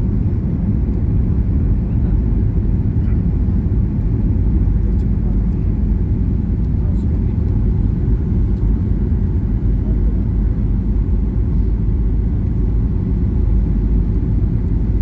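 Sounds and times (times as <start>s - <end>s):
airplane engines rumbling: 0.0s - 15.0s.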